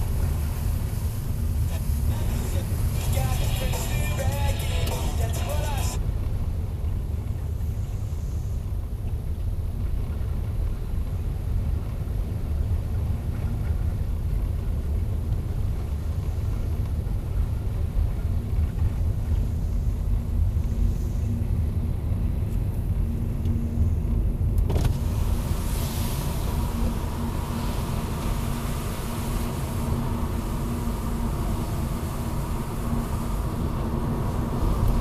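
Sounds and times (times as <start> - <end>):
car rumble from inside cabin: 0.0 - 35.0
faint engine hum: 0.0 - 35.0.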